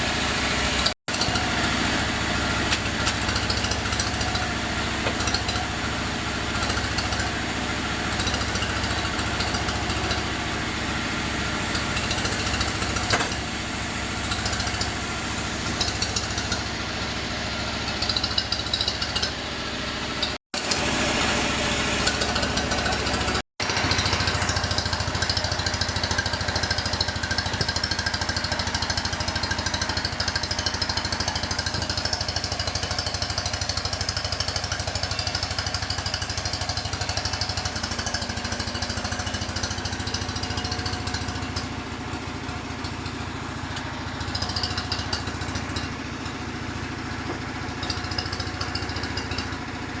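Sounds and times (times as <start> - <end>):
sawmill machinery running: 0.0 - 50.0.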